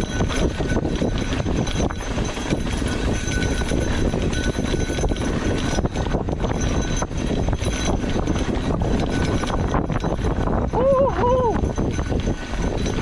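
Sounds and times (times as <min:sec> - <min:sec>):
bike rolling over dirt trail: 0:00.0 - 0:10.7, 0:11.6 - 0:13.0
small rattles and knocks: 0:00.0 - 0:13.0.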